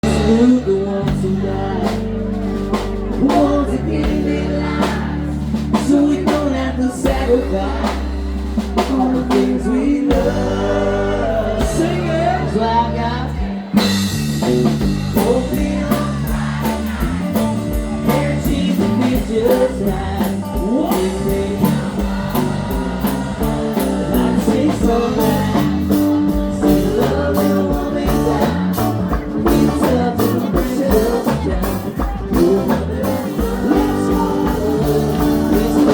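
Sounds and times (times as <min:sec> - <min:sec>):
blues-rock band playing: 0:00.0 - 0:35.9
person singing: 0:00.0 - 0:35.9.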